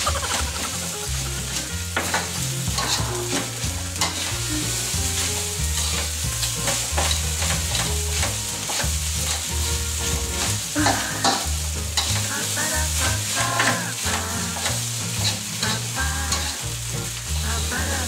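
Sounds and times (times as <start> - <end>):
metal spatula scraping a wok: 0.0 - 18.0
rice sizzling in a wok: 0.0 - 18.0.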